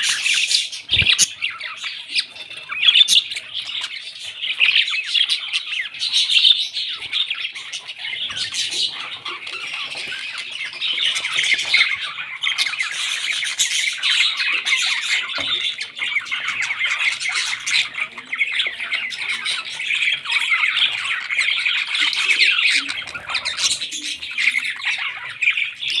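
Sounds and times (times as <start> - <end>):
parrots squawking and chattering: 0.0 - 26.0.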